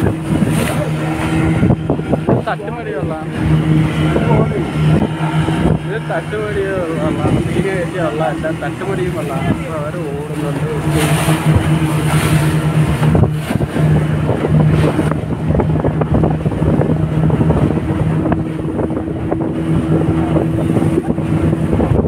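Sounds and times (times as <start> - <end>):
boat engine humming: 0.0 - 22.0
water washing past hull: 0.0 - 22.0
wind buffeting microphone: 0.0 - 22.0.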